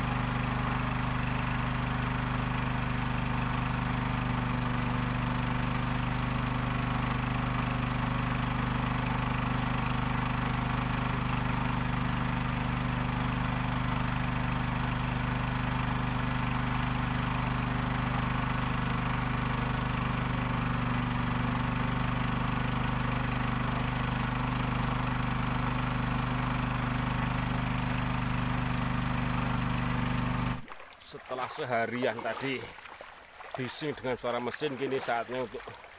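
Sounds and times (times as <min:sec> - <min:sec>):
small petrol engine running: 0:00.0 - 0:30.7.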